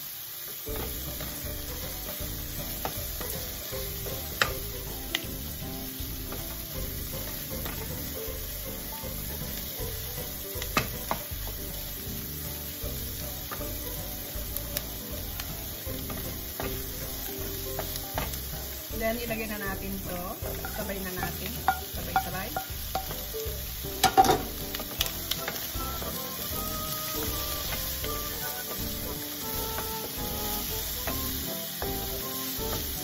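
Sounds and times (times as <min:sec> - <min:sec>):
onion and garlic sizzling in oil: 0:00.0 - 0:33.0
wooden spatula knocking pan: 0:00.7 - 0:11.9, 0:13.0 - 0:33.0.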